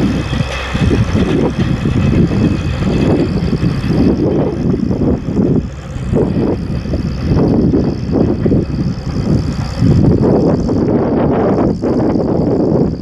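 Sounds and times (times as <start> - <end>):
distant tractor running: 0.0 - 13.0
wind buffeting microphone: 0.0 - 13.0.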